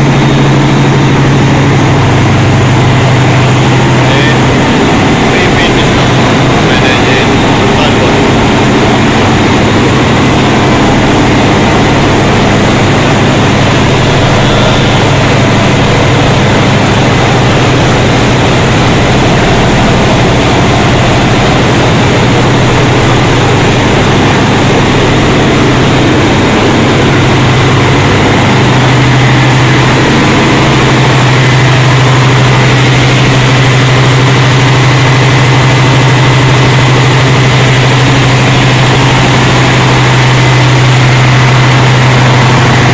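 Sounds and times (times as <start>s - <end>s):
diesel machinery droning: 0.0s - 42.9s.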